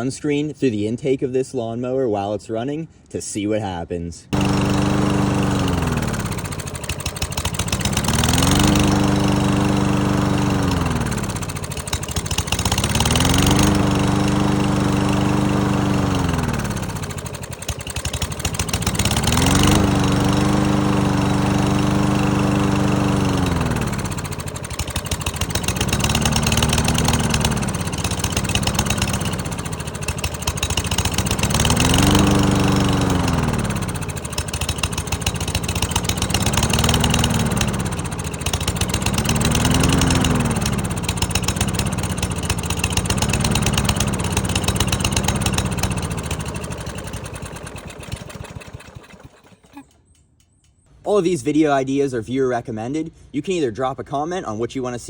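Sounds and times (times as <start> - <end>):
lawn mower engine revving: 4.3 - 50.2.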